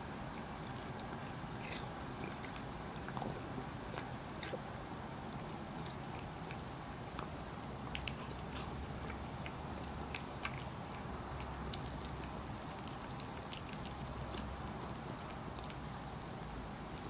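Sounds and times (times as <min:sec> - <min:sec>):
cat licking and chewing: 0:00.2 - 0:17.0.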